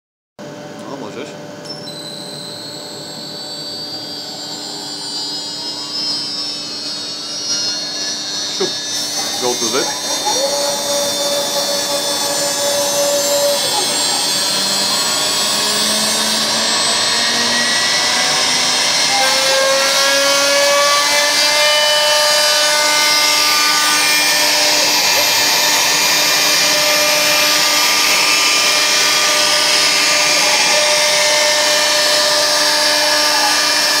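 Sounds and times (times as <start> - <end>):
router cutting wood: 2.0 - 34.0
dust extraction sucking: 2.4 - 34.0.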